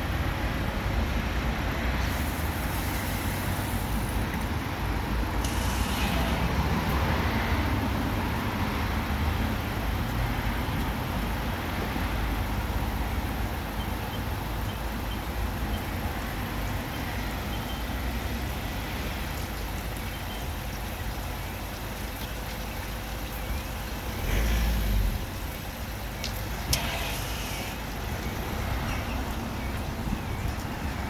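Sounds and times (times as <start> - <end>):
car wash running: 0.0 - 31.0.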